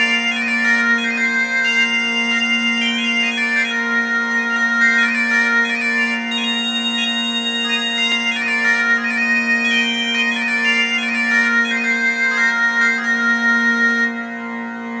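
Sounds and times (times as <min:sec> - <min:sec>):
bagpipe chanter melody: 0:00.0 - 0:15.0
bagpipe drone: 0:00.0 - 0:15.0.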